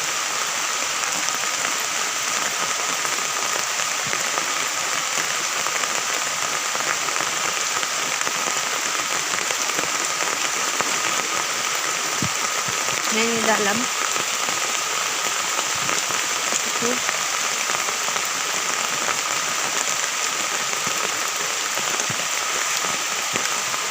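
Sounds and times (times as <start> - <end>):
steady rain: 0.0 - 23.9.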